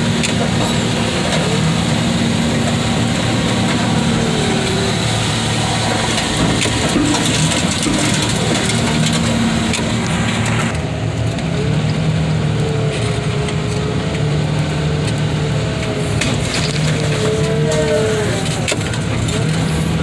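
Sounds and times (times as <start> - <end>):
diesel machinery running: 0.0 - 20.0
hydraulic whine: 0.0 - 20.0
metal cracking and crunching: 0.0 - 20.0.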